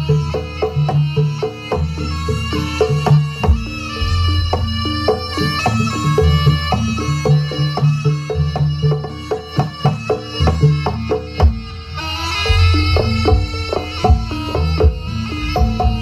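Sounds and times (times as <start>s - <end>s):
drum strokes: 0.0s - 16.0s
reedy shawm melody: 0.0s - 16.0s
struck metallophone notes: 0.0s - 16.0s.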